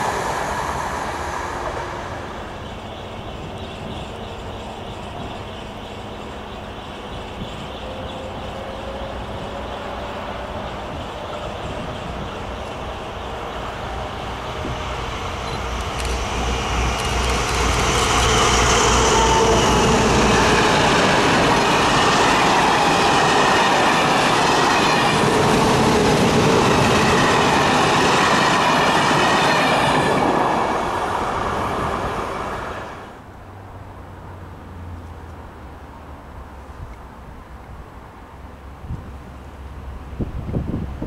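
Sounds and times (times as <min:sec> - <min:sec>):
train rumbling over rails: 0:00.0 - 0:34.4.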